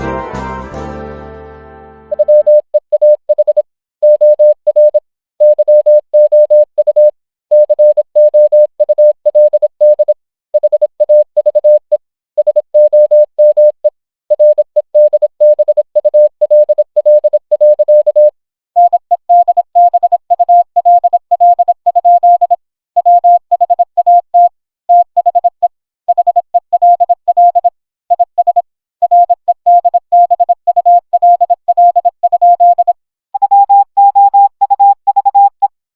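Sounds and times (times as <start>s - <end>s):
morse code beeps: 2.1s - 11.8s, 12.4s - 35.7s.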